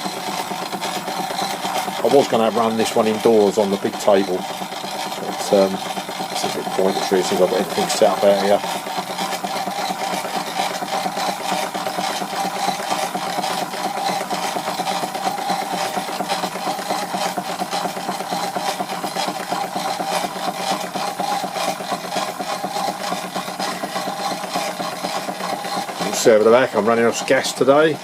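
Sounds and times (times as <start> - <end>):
steam engine beating: 0.0 - 28.0.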